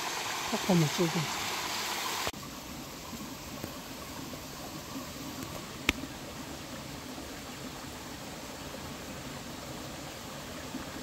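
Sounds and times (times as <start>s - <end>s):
stream water rushing: 0.0s - 11.0s
waterfall splashing over rocks: 0.0s - 11.0s.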